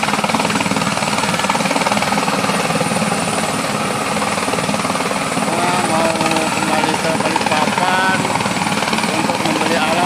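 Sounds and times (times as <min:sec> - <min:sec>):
helicopter engine noise: 0:00.0 - 0:10.0
helicopter rotor beating: 0:00.0 - 0:10.0.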